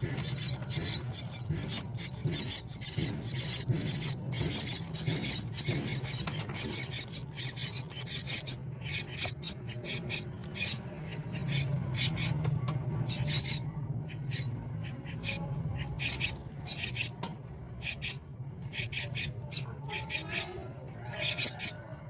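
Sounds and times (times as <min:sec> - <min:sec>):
steady low hum: 0:00.0 - 0:21.8
nestlings rasping calls: 0:00.0 - 0:22.0.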